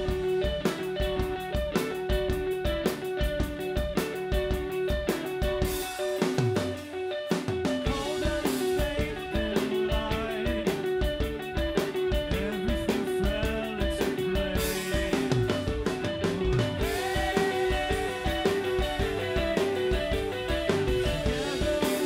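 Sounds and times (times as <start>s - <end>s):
bass guitar: 0.0s - 22.0s
drum kit: 0.0s - 22.0s
electric guitar: 0.0s - 22.0s.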